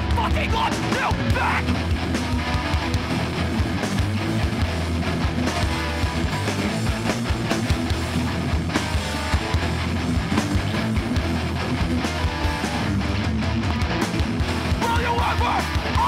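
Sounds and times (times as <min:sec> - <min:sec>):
punk band playing live: 0:00.0 - 0:16.0.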